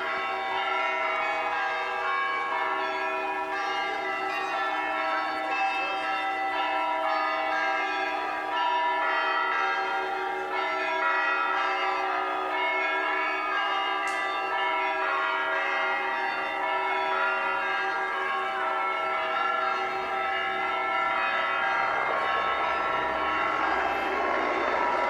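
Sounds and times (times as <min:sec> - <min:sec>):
church bells ringing together: 0:00.0 - 0:25.0.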